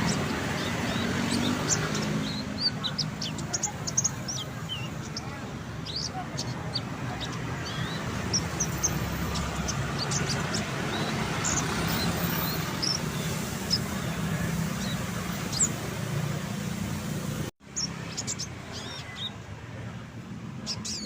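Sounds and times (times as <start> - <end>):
songbird chirping: 0.0 - 19.9
low traffic rumble: 0.0 - 21.0.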